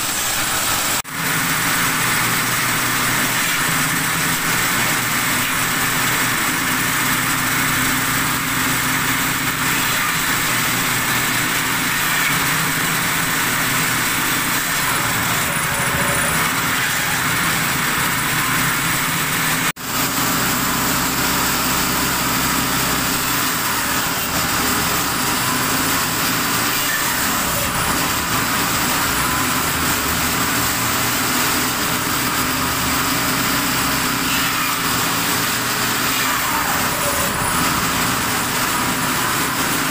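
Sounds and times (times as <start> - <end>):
table saw cutting wood: 0.0 - 39.9.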